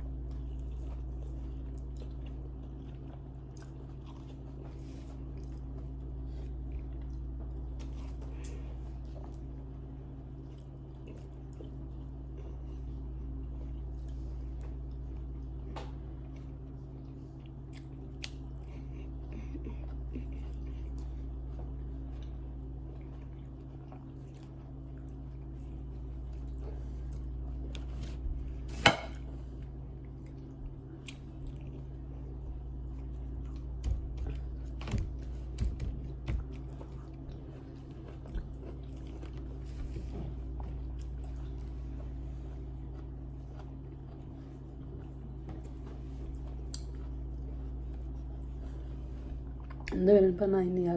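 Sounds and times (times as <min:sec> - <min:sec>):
person chewing food: 0:00.0 - 0:50.0
steady low hum: 0:00.0 - 0:50.9.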